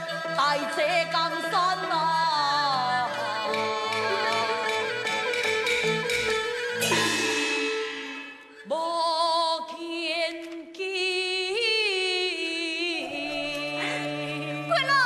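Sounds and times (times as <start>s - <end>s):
opera singing with long wavering notes: 0.0s - 15.0s.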